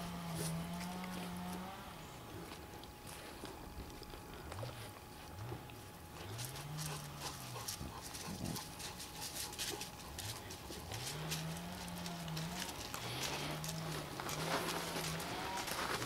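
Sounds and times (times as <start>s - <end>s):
puppy paws crunching on gravel: 0.0s - 1.8s, 2.4s - 16.0s.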